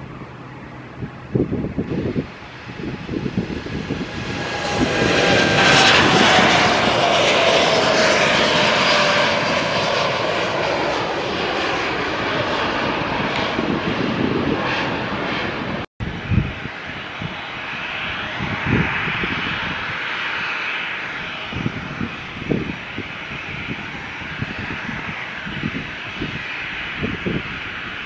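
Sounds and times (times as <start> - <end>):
jet roar passing overhead: 0.0 - 28.0.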